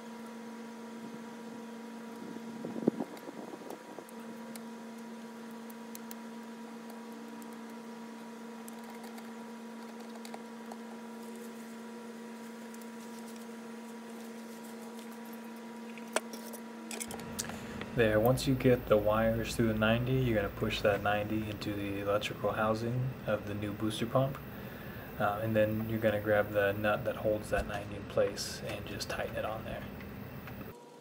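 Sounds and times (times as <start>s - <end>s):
steady tonal hum: 0.0s - 31.0s.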